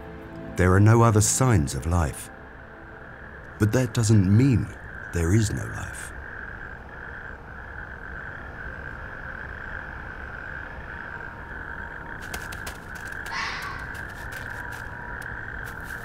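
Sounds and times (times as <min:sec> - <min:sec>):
toads calling in rasping trill: 0:03.1 - 0:16.0.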